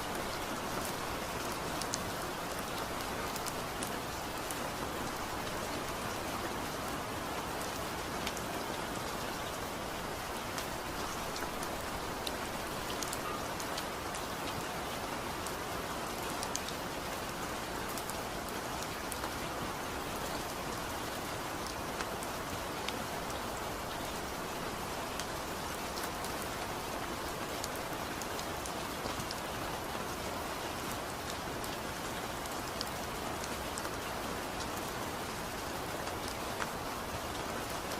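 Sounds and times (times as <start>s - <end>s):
heavy rain on a tin roof: 0.0s - 37.9s.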